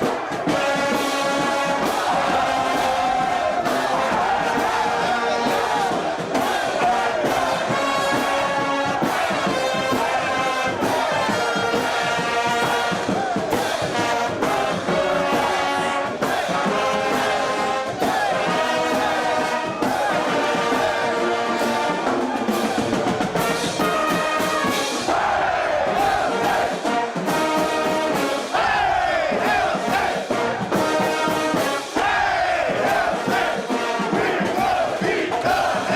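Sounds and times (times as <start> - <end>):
brass band playing: 0.0 - 35.9.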